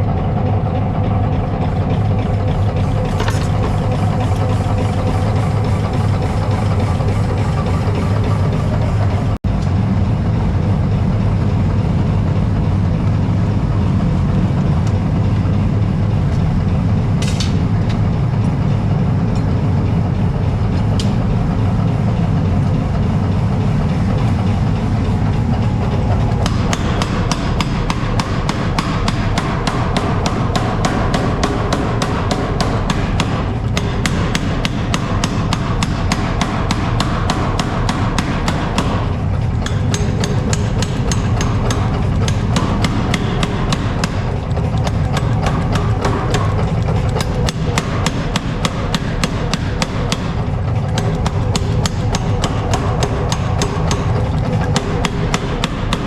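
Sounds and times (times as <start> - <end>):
low rumble: 0.0 - 48.0.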